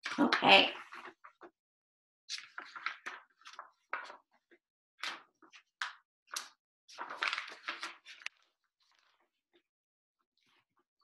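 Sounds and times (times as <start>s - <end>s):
book pages rustling and flapping: 0.0s - 1.6s, 2.3s - 9.7s, 10.4s - 10.9s.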